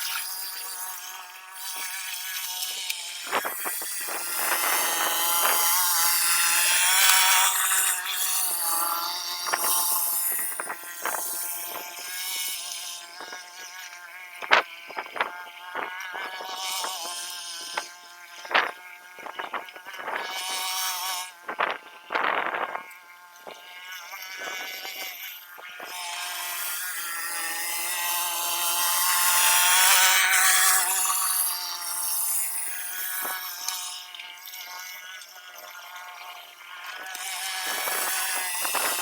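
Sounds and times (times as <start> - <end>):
small petrol engine buzzing: 0.0 - 39.0.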